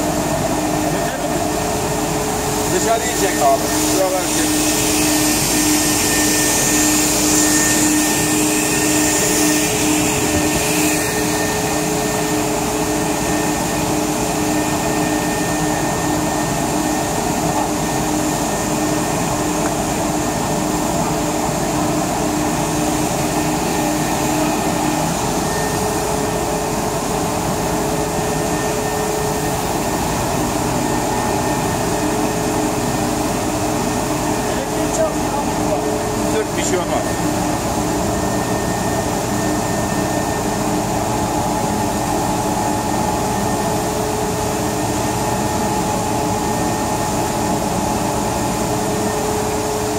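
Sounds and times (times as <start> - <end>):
industrial vacuum cleaner running: 0.0 - 49.9.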